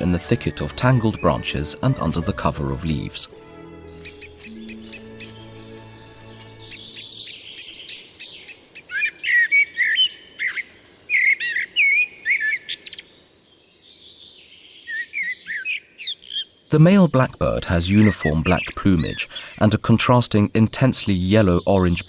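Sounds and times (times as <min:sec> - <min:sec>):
blackbird singing: 0:00.0 - 0:22.0.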